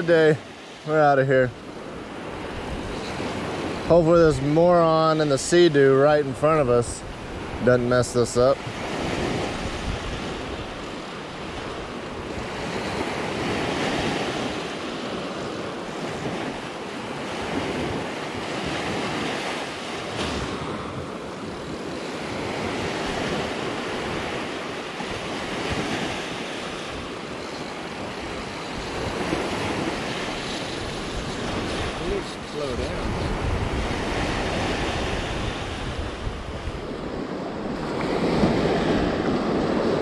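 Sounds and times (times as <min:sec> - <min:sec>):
small waves breaking on beach: 0:00.0 - 0:40.0
wind buffeting microphone: 0:01.8 - 0:05.2, 0:06.4 - 0:40.0.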